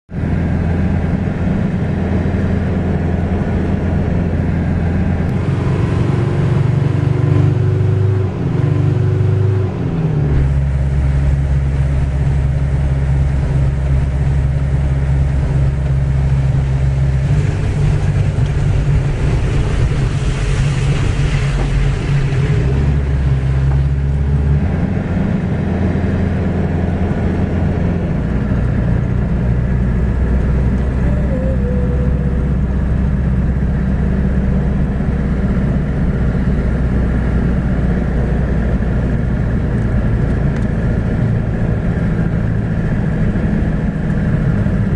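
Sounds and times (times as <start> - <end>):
vehicle engine rumbling: 0.1 - 44.9.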